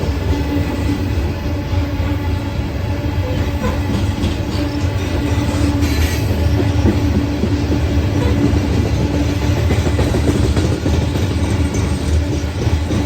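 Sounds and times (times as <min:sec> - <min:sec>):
train cars rolling on rails: 0:00.0 - 0:13.0.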